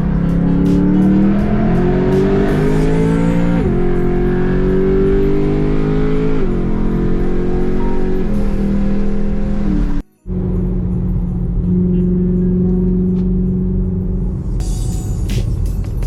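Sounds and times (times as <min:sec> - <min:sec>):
car engine accelerating and upshifting: 0:00.0 - 0:14.7.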